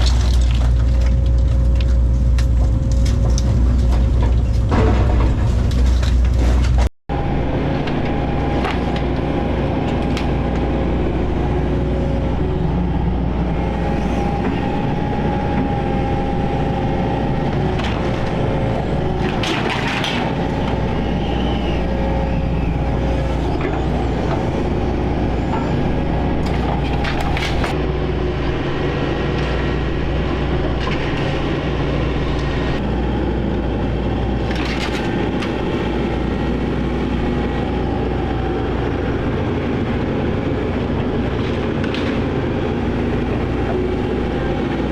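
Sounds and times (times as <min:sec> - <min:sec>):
demolition debris crashing: 0:00.0 - 0:12.9, 0:13.7 - 0:27.8, 0:28.9 - 0:44.9
excavator engine whining: 0:00.0 - 0:44.9.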